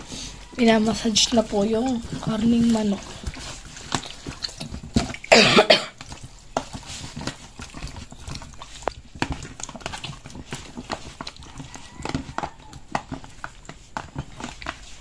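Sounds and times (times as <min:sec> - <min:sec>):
wet squelching of raw chicken: 0:00.0 - 0:15.0.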